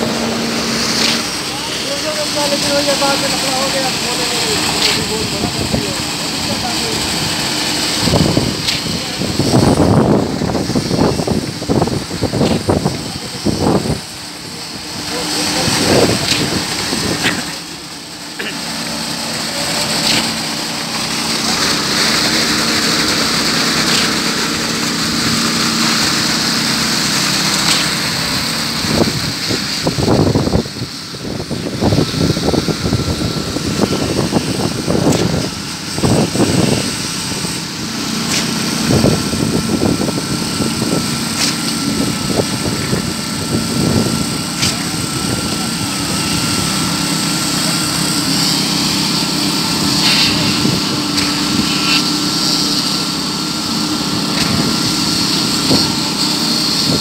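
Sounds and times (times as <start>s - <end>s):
knocks and scrapes of concrete work: 0.0s - 30.8s, 31.4s - 57.0s
machinery engine running: 0.0s - 57.0s
thin steady whine: 0.0s - 57.0s.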